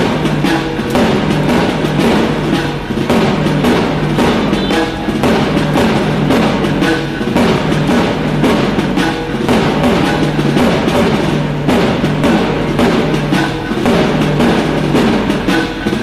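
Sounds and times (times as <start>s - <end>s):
music with drum beat: 0.0s - 16.0s.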